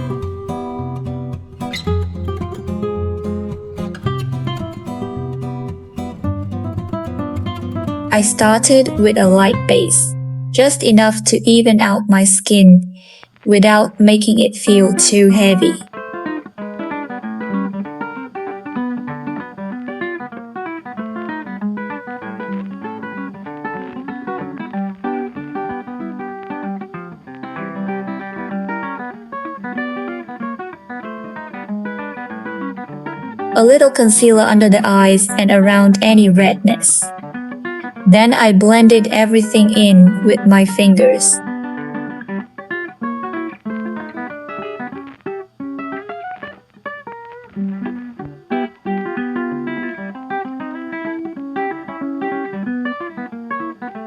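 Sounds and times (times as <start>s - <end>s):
acoustic guitar picking melody: 0.0s - 54.0s.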